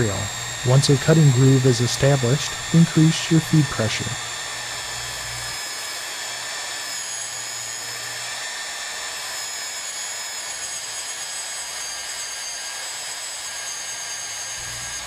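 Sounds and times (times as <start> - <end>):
magnetic drill boring through metal: 0.0 - 15.0.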